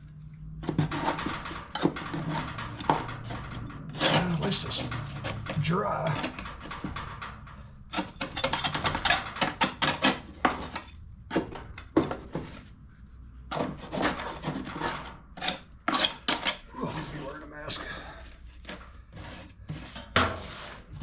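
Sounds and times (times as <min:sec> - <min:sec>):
putty knife scraping metal: 0:00.6 - 0:12.7, 0:13.5 - 0:17.4, 0:18.1 - 0:21.0.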